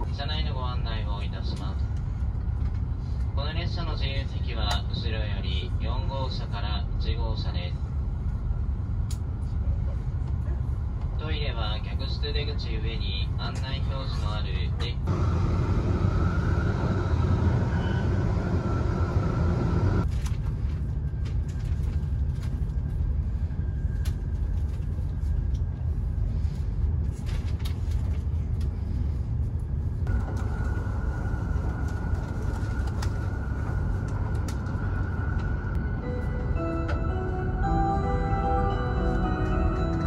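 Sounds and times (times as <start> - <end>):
train cabin rumble and hiss: 0.0 - 40.0.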